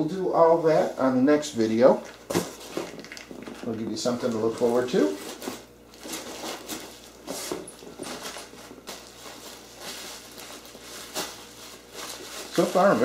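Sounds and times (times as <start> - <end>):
bubble wrap rustling and crinkling: 2.3 - 13.0.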